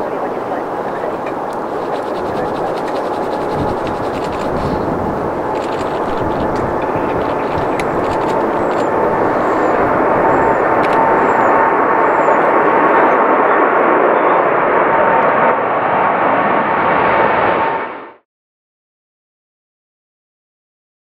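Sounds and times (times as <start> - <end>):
jet engine whine: 0.0 - 18.2
jet engines roaring at takeoff: 0.0 - 18.2.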